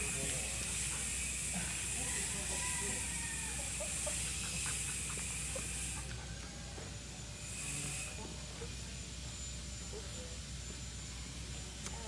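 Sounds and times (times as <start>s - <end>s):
high steady hiss: 0.0s - 10.2s.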